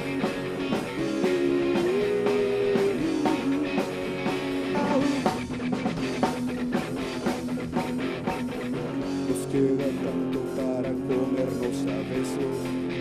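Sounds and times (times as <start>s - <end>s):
electric guitar bending notes: 0.0s - 13.0s
steady drum beat: 0.0s - 13.0s.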